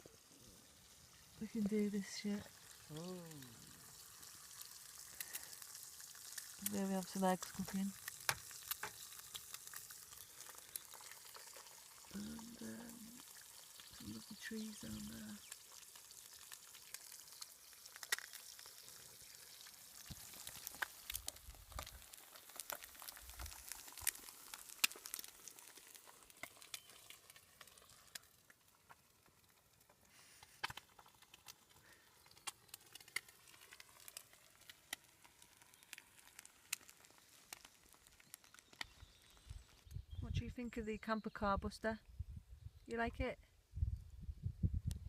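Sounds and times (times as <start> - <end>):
oil crackling and popping: 0.0 - 41.3, 44.0 - 45.0
eggs sizzling in a pan: 0.0 - 41.5.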